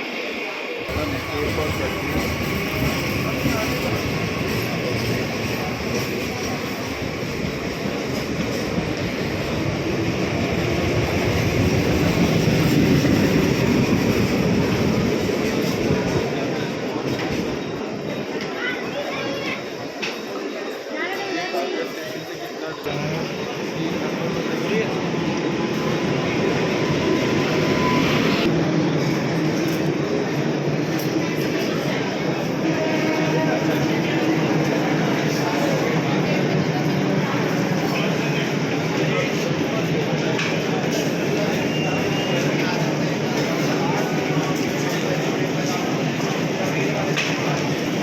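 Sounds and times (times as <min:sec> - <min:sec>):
electric train running: 0:00.1 - 0:16.4, 0:22.9 - 0:48.0.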